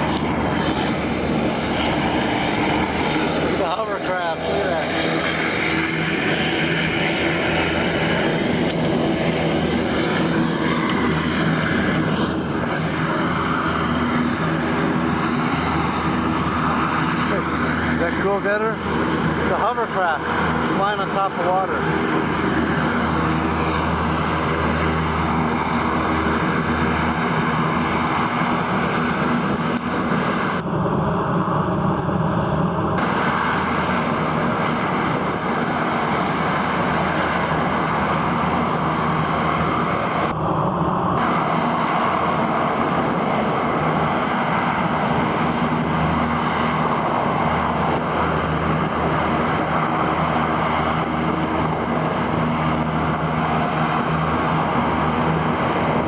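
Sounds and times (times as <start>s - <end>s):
outboard motor running: 0.0s - 56.0s
rush of wind and water: 0.0s - 56.0s.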